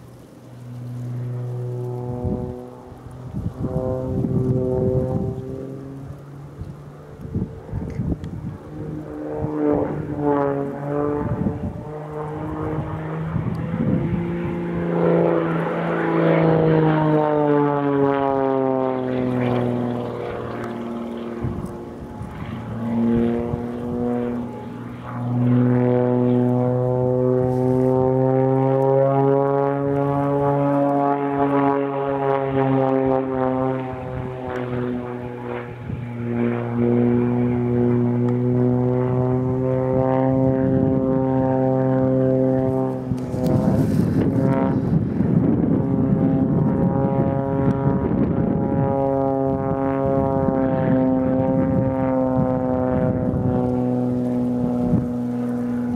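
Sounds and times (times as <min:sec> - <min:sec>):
propeller plane engine droning: 0:00.0 - 0:55.9.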